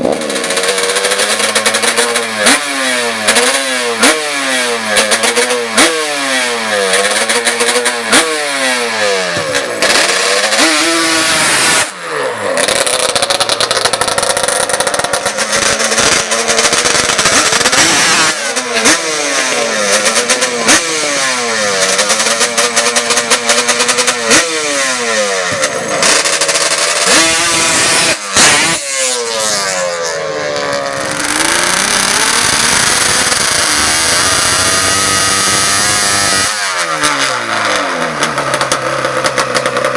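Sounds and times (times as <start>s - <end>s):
atv engine revving hard: 0.0s - 39.9s.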